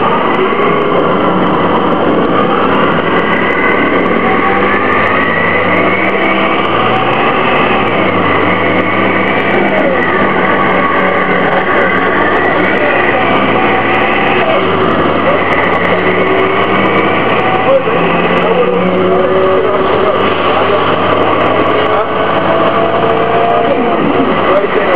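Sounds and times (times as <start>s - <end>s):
bus engine droning with whine: 0.0s - 24.9s.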